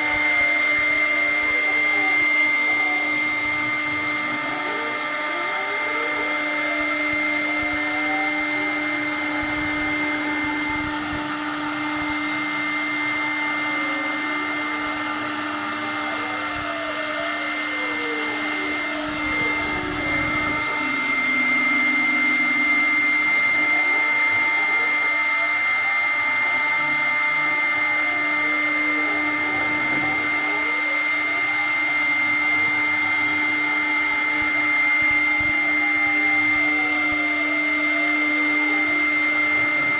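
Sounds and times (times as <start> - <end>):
axis motors whining: 0.0 - 39.9
router spindle whine: 0.0 - 39.9.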